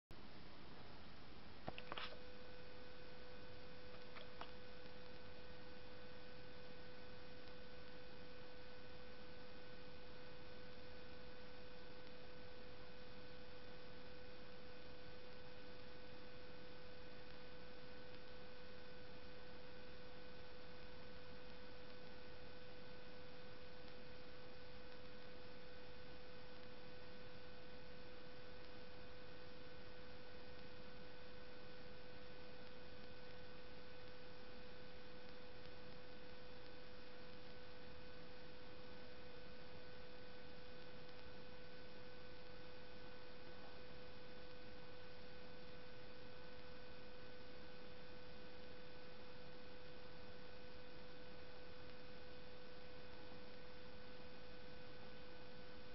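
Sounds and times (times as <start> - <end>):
electrical hum with whine: 0.1 - 55.9.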